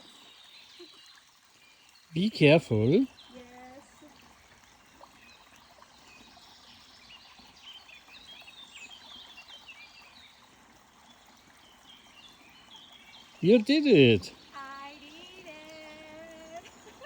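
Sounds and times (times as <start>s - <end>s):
small birds chirping: 0.0s - 17.0s
stream water running: 0.0s - 17.0s.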